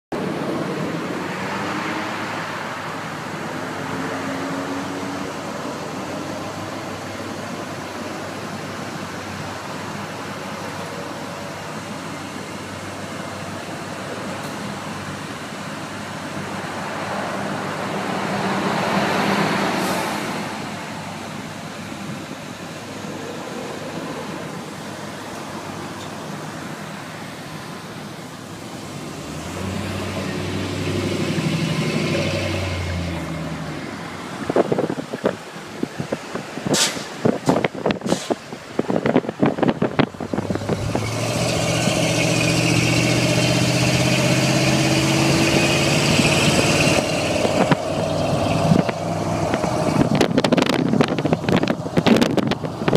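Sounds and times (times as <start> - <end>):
road traffic passing: 0.1 - 52.9.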